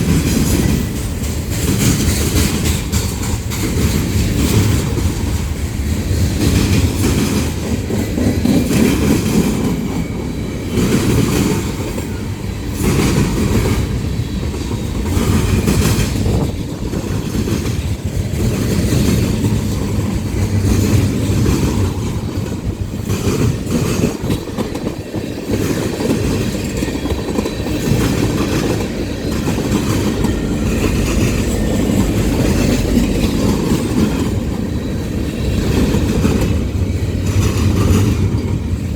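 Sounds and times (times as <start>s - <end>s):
clickety-clack of wheels on rail joints: 0.0s - 38.9s
train wheels rumbling on rails: 0.0s - 38.9s.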